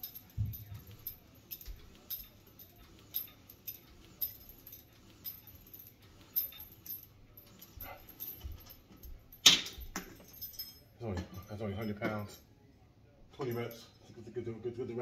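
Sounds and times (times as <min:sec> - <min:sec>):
metal chain clinking: 0:00.0 - 0:12.5, 0:13.4 - 0:14.1.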